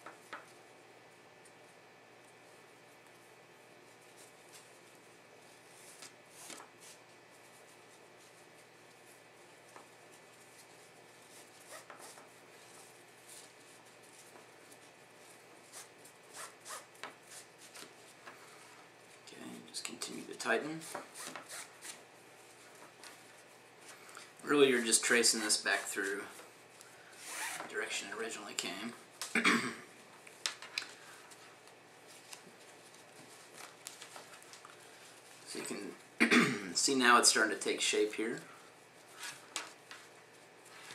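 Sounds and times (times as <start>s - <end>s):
rope rustling and scuffing: 1.4s - 36.2s, 36.8s - 40.9s.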